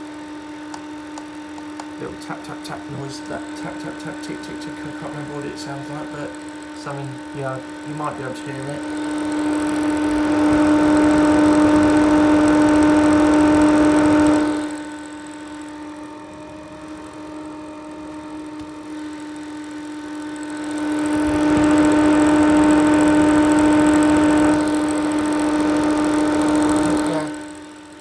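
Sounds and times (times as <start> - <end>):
extractor fan humming: 0.0 - 28.0.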